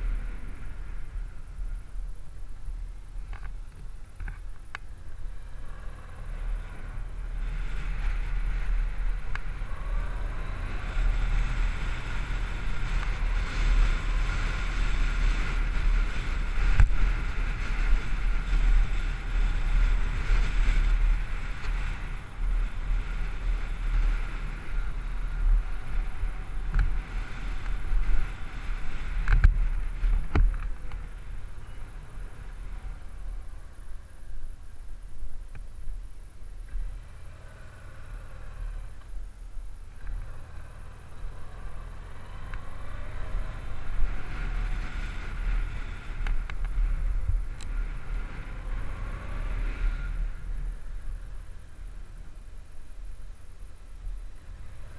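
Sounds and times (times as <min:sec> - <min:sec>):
motorcycle riding: 0:00.0 - 0:54.9
wind rumble on microphone: 0:00.0 - 0:54.9.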